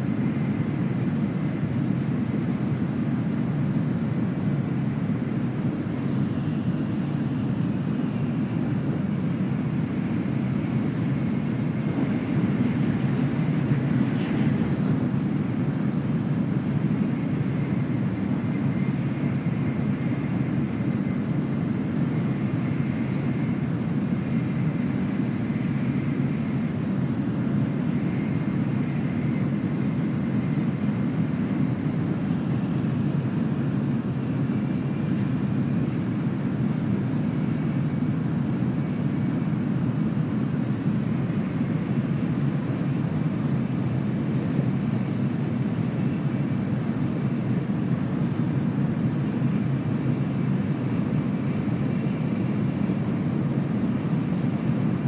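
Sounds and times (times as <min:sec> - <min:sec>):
train cabin low rumble: 0:00.0 - 0:53.9
faint high whine: 0:00.0 - 0:55.0.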